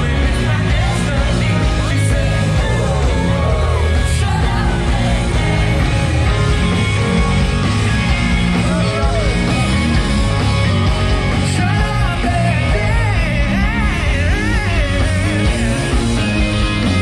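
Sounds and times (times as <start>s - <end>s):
person singing: 0.0s - 17.0s
soul band playing dance music: 0.0s - 17.0s
steady bass line: 0.0s - 17.0s.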